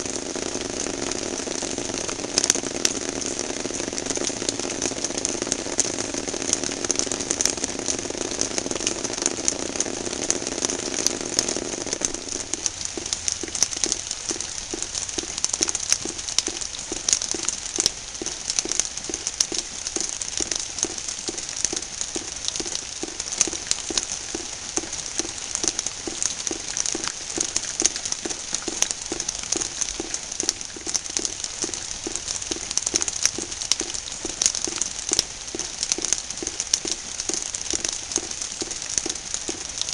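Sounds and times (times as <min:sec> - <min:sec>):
rain pattering on plastic: 0:00.0 - 0:39.9.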